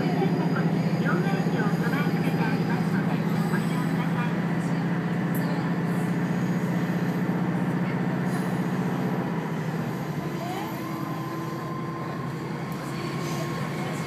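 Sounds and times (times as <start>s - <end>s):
diesel railcar engine drone: 0.0s - 14.0s
train track noise: 0.0s - 14.0s.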